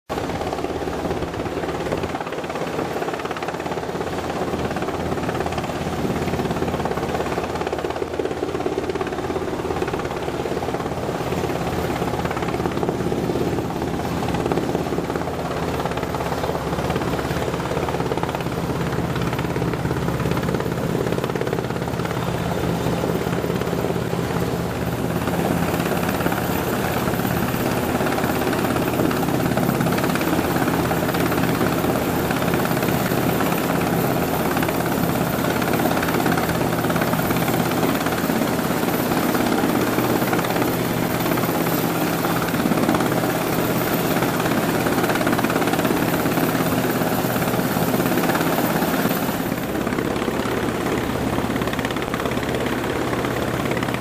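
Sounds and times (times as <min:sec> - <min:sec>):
helicopter hovering: 0:00.1 - 0:54.0.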